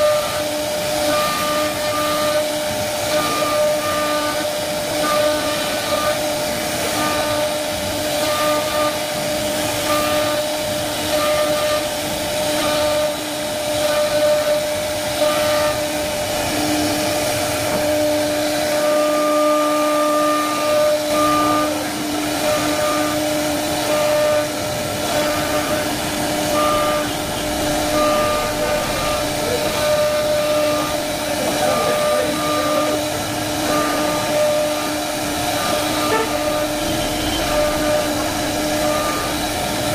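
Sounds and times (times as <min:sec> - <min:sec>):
wood router spindle whine: 0:00.0 - 0:39.9.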